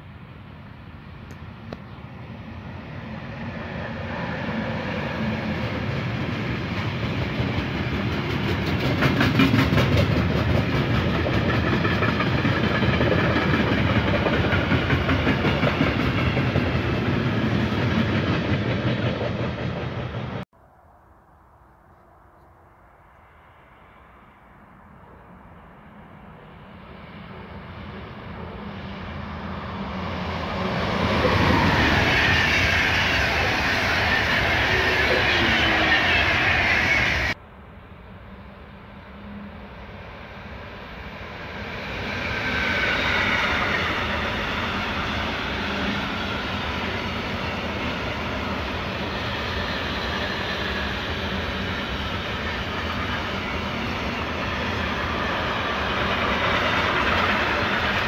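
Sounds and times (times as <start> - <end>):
freight train rolling past: 0.0 - 20.5, 22.8 - 58.0
passenger train passing: 0.0 - 58.0.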